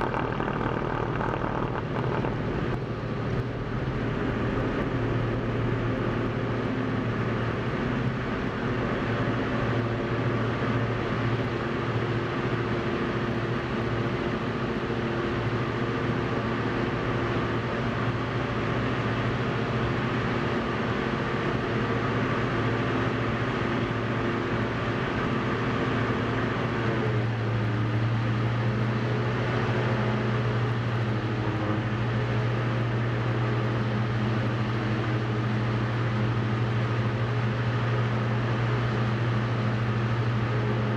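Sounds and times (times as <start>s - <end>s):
aircraft engine and propeller: 0.0s - 40.9s.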